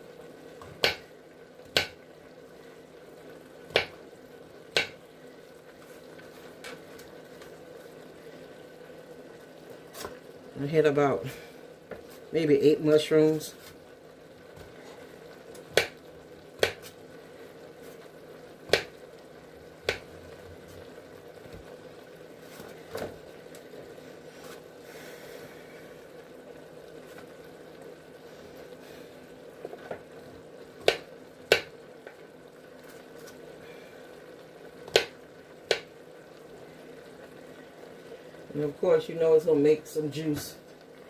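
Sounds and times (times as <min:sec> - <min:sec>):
vegetables sizzling in butter: 0:00.0 - 0:41.0.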